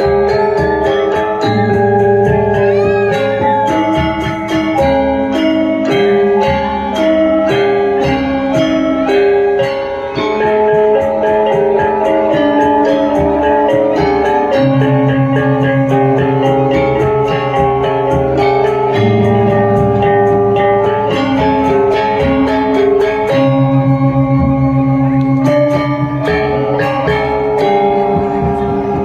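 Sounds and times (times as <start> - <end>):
gamelan metallophones playing: 0.0 - 29.0
low held tones: 0.0 - 29.0.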